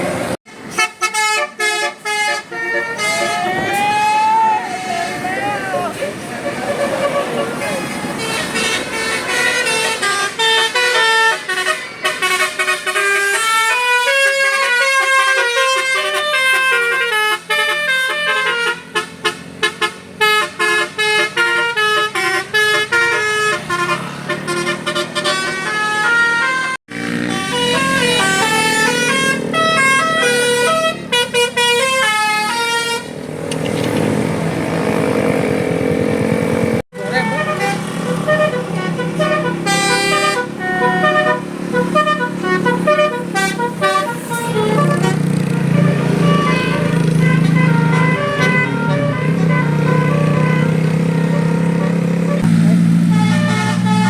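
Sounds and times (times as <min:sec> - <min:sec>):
bus engine running: 0:00.0 - 0:54.0
bus musical horn melody: 0:00.2 - 0:33.3, 0:34.1 - 0:54.0.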